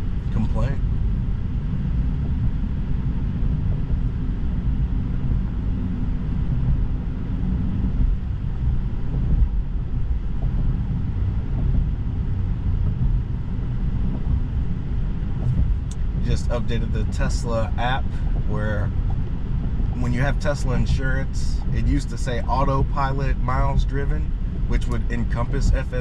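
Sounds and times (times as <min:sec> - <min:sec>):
road and tyre rumble in car: 0:00.0 - 0:26.0.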